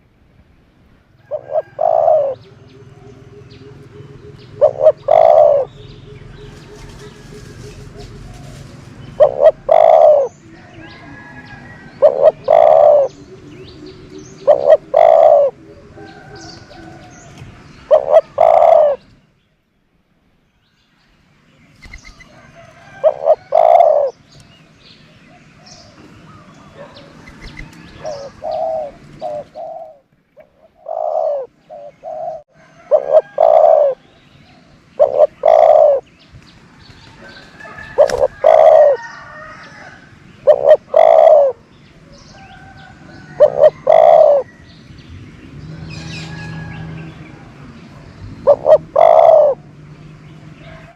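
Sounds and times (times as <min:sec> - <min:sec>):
dove cooing: 0:01.2 - 0:19.1, 0:22.0 - 0:24.2, 0:25.3 - 0:36.1, 0:37.2 - 0:44.6, 0:45.7 - 0:49.7.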